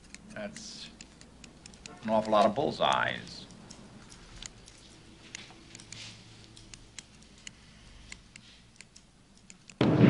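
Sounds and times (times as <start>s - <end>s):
scissors snipping hair: 0.0s - 9.8s.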